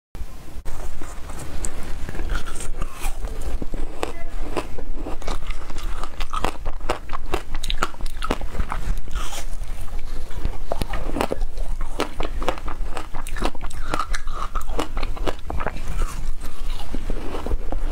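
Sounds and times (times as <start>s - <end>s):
crunching shaved ice between teeth: 2.1s - 9.6s, 10.7s - 17.9s.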